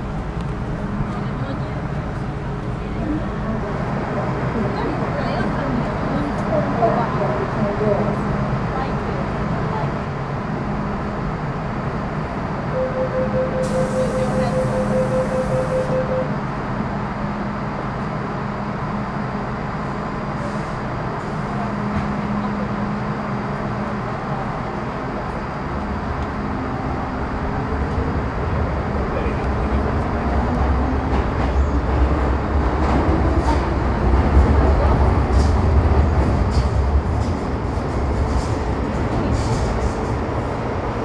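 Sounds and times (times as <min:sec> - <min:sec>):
electric train hum: 0:00.0 - 0:41.0
train rumble: 0:00.0 - 0:41.0.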